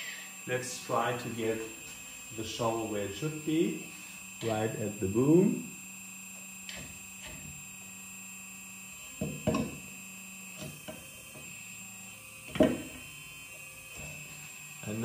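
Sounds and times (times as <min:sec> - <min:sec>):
hydraulic pump electric hum: 0:00.0 - 0:15.0.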